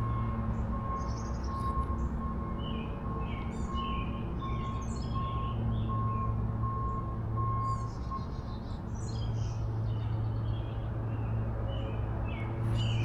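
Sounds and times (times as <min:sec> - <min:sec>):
songbirds chirping: 0:00.1 - 0:06.3, 0:07.7 - 0:13.0.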